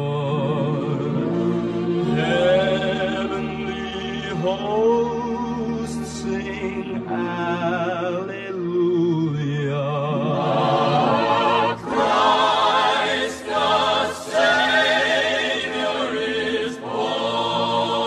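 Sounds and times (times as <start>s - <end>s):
male vocal quartet singing carol: 0.0s - 18.0s.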